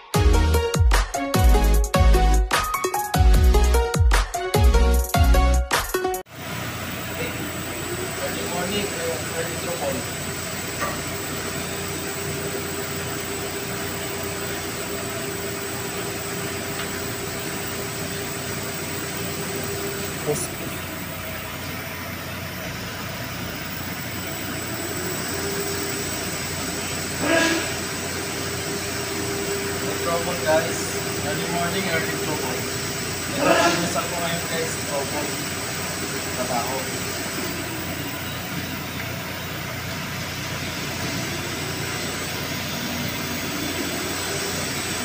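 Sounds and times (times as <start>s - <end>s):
machinery drone with low hum: 6.4s - 45.0s.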